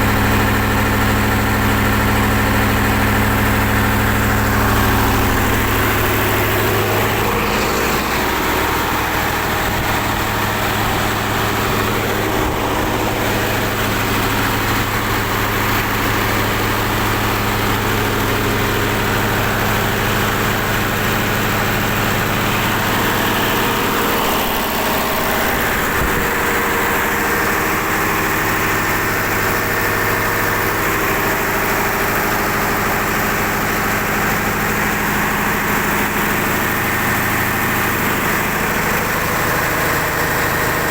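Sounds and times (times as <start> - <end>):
diesel generator running: 0.0 - 40.9.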